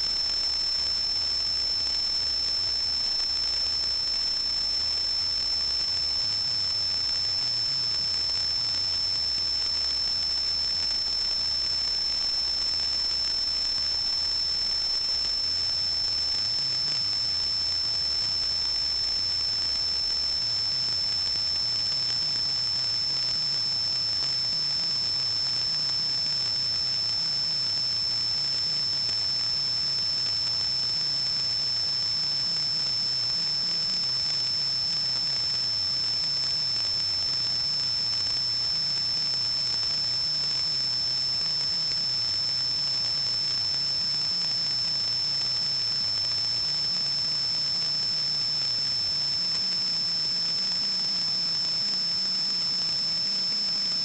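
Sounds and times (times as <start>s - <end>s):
constant hiss: 0.0s - 54.0s
high-pitched whine: 0.0s - 54.0s.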